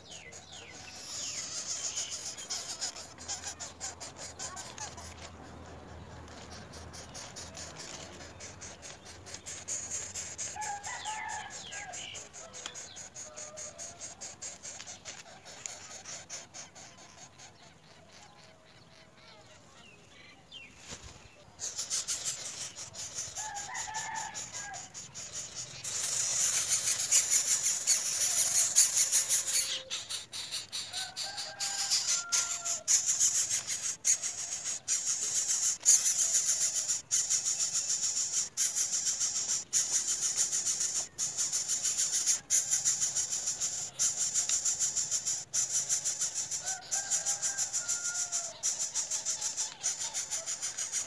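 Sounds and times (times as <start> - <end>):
distant chickens clucking: 0.0 - 51.0.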